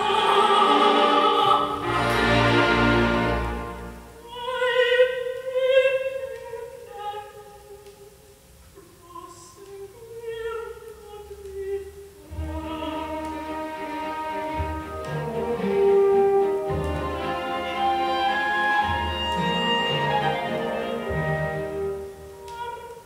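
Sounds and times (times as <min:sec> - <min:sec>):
operatic solo voice with orchestra: 0:00.0 - 0:07.3, 0:11.6 - 0:23.0.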